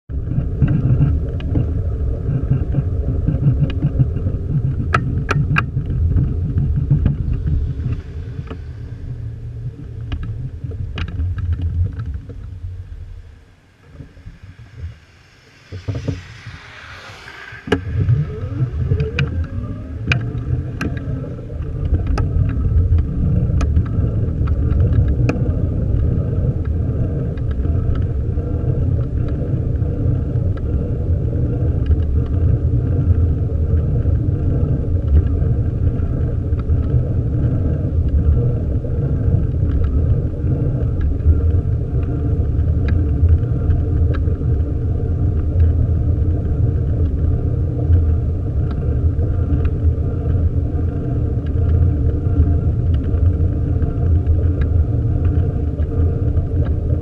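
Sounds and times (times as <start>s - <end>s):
bicycle tyre rumble: 0.1s - 57.0s
wind buffeting microphone: 0.1s - 57.0s.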